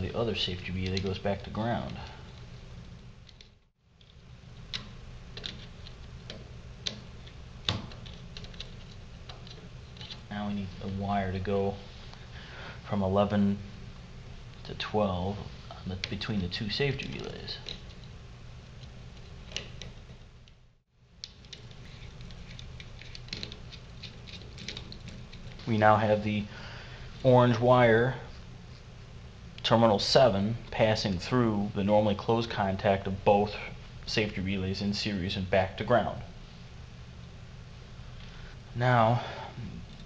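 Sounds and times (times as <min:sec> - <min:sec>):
low steady background: 0:00.0 - 0:40.0.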